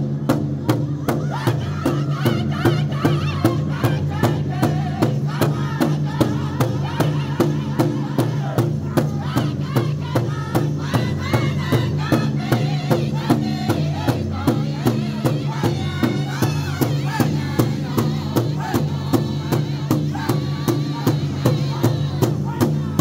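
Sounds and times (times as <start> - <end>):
big drum beating: 0.0 - 23.0
high-pitched voices singing: 1.0 - 23.0.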